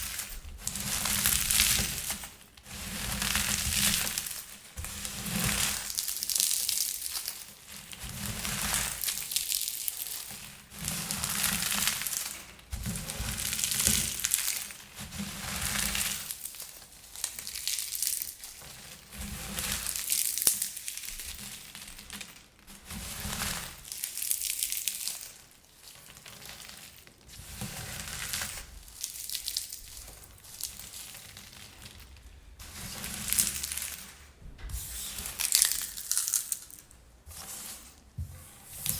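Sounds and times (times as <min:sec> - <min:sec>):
popcorn being crushed: 0:00.0 - 0:34.3, 0:35.2 - 0:37.4.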